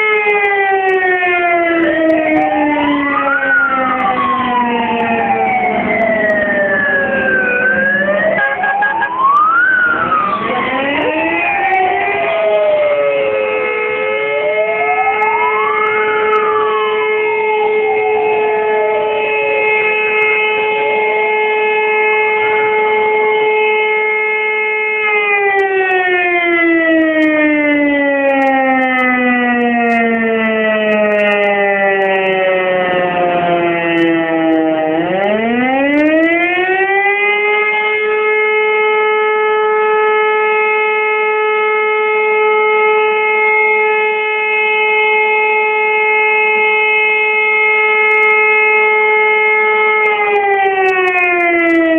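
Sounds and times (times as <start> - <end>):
mechanical alarm siren: 0.0 - 51.9.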